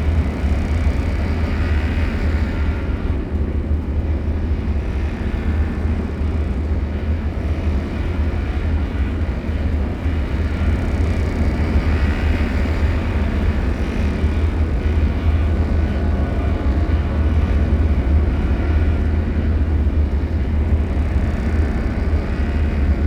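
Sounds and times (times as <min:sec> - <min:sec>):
deep steady drone rumble: 0:00.0 - 0:23.0.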